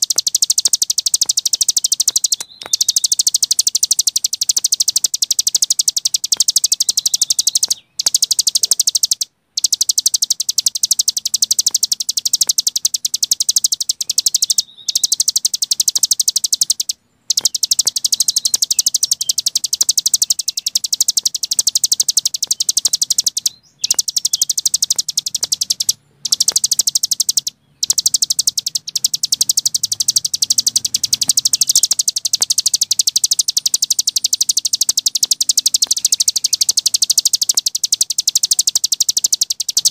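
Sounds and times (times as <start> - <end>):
songbird rattling trill: 0.0 - 39.9.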